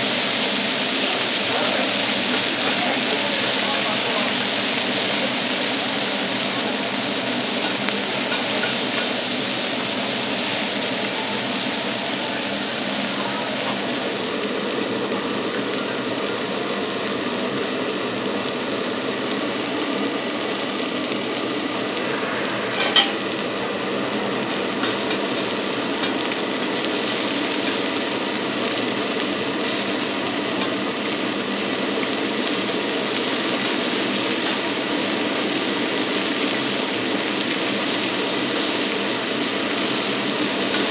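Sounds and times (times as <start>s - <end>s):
steak sizzling: 0.0s - 40.9s.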